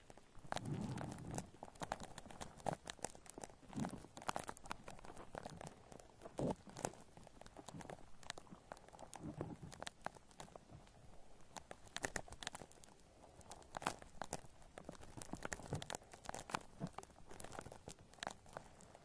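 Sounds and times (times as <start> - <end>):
shaving foam squishing: 0.0 - 19.0.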